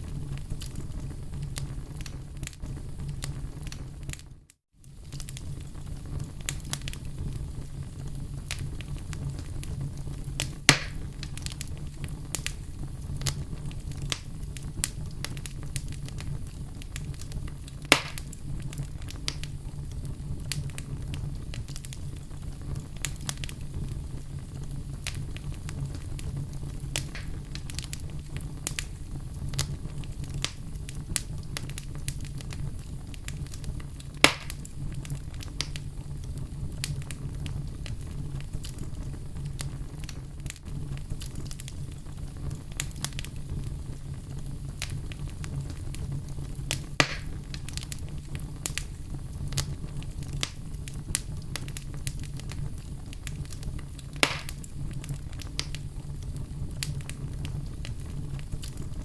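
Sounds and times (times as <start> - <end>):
fire crackles and pops: 0.0 - 59.0
fire rumbling in fireplace: 0.0 - 59.0.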